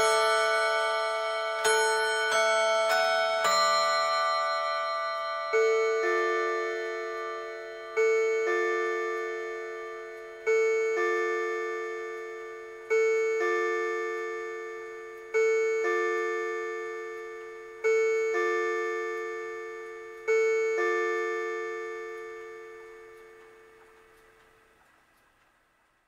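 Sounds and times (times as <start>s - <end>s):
electronic clock chime: 0.0s - 24.7s.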